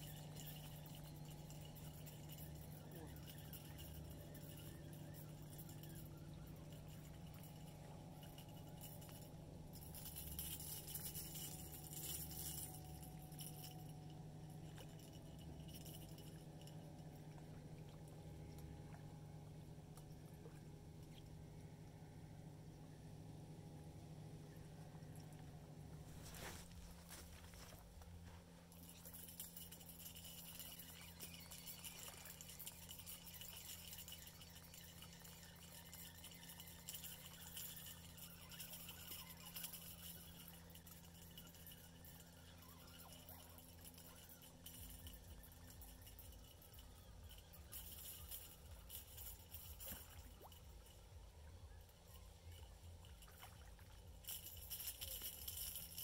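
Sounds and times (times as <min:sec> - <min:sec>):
fishing tackle clinking: 0:00.0 - 0:22.8, 0:23.6 - 0:56.0
faint low hum: 0:00.0 - 0:56.0.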